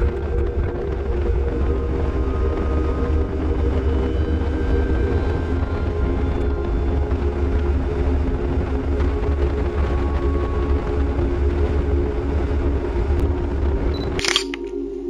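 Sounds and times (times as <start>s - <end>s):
motorcycle engine cruising: 0.0s - 13.9s.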